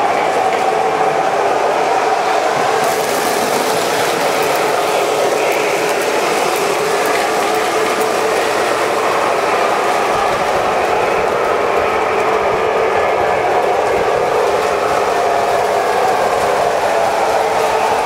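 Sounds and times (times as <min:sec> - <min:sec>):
toy trains rattling and whirring: 0:00.0 - 0:18.0
wheels ticking over rail joints: 0:00.0 - 0:18.0.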